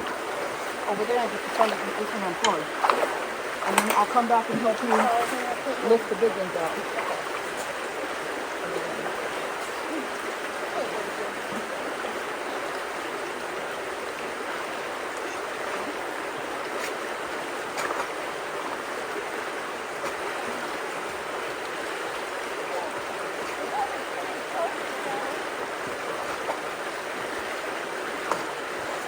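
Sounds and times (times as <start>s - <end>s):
creek water rushing through culvert: 0.0s - 29.0s
faint splashes: 0.0s - 29.0s.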